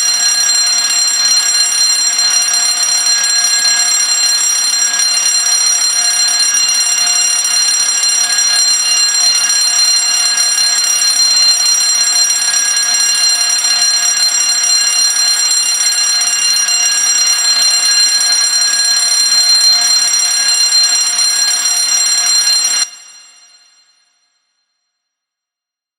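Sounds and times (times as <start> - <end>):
fire alarm bell ringing: 0.0 - 25.0.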